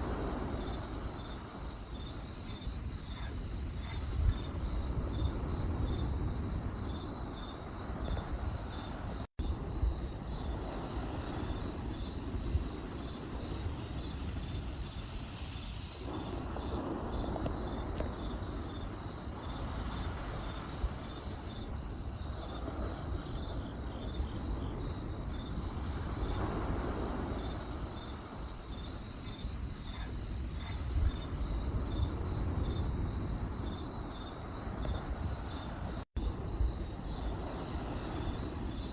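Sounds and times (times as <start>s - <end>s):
campfire rumbling and crackling: 0.0s - 38.9s
crickets chirping: 0.0s - 38.9s.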